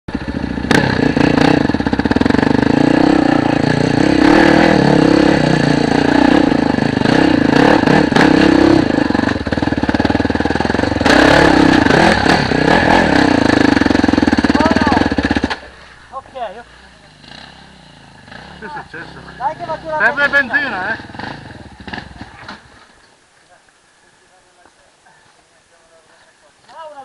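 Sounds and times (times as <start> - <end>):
dirt bike engine revving: 0.1 - 22.8.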